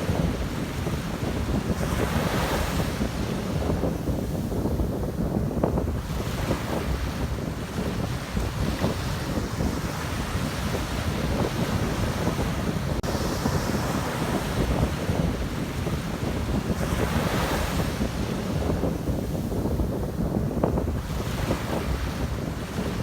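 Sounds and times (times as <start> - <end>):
sea waves breaking: 0.0 - 23.0
wind buffeting microphone: 0.0 - 23.0.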